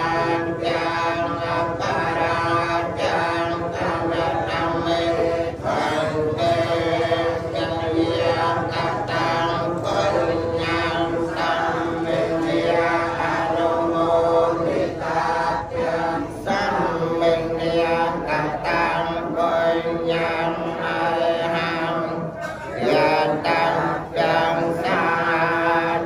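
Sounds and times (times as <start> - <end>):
monks chanting in unison: 0.0 - 26.0.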